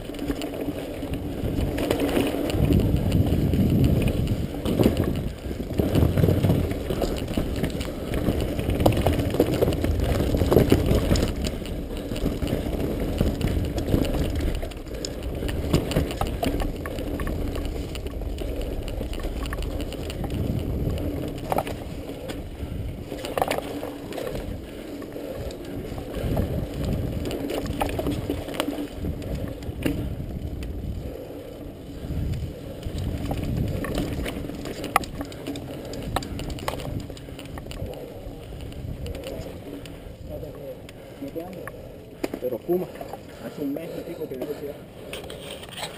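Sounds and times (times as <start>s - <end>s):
bike clicking and rattling: 0.0s - 45.9s
bike tyres rumbling on dirt: 0.0s - 45.9s.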